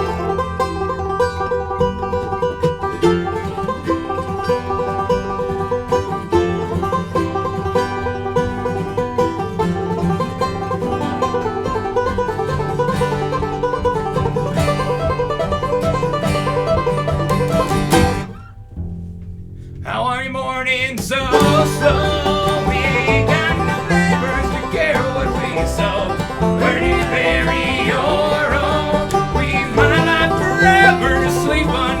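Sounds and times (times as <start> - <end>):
fast banjo picking: 0.0 - 32.0
guitar: 0.0 - 32.0
upright bass: 0.0 - 32.0.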